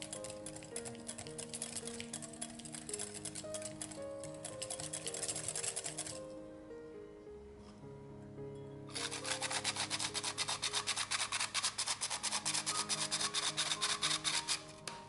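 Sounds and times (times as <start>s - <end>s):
sugar sifting through sieve: 0.0s - 6.2s, 8.9s - 14.8s
soft background music: 0.0s - 15.0s.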